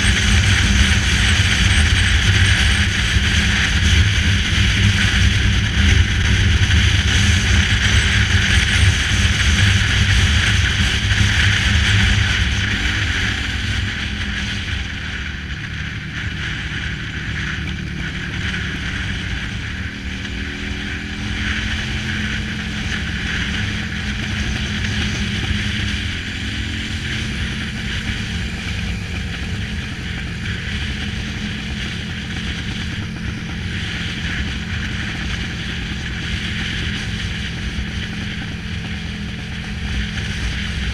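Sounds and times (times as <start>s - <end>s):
motorcycle engine rumble: 0.0s - 40.9s
wind rushing over microphone: 0.0s - 40.9s.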